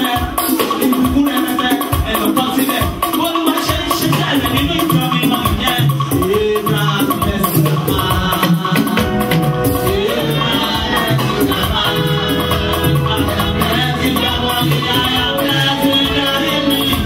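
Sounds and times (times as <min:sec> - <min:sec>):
music with shakers and drums: 0:00.0 - 0:17.0.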